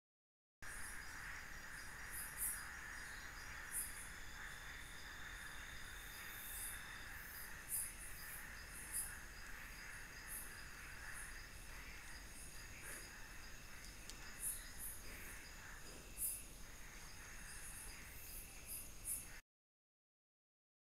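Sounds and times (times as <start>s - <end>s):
insects humming and trilling: 0.6s - 19.4s
sharp high cricket chirps: 0.6s - 19.4s.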